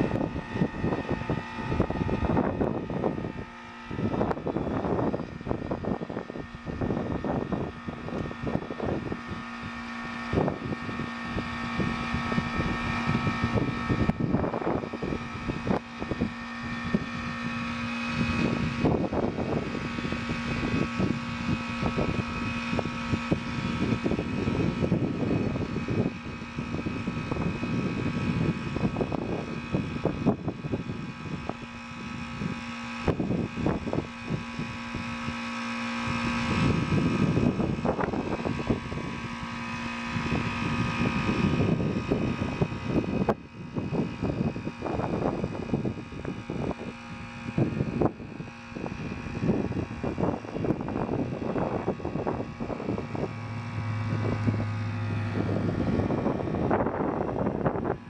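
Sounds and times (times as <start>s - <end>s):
heat pump compressor humming: 0.0s - 58.0s
high whining tones: 0.0s - 58.0s
wind buffeting microphone: 0.0s - 58.0s.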